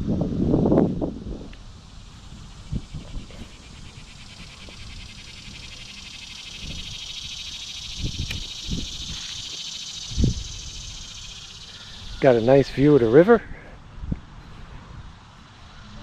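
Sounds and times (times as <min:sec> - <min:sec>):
wind buffeting microphone: 0:00.0 - 0:15.4
insects singing: 0:01.2 - 0:14.4, 0:15.0 - 0:16.0.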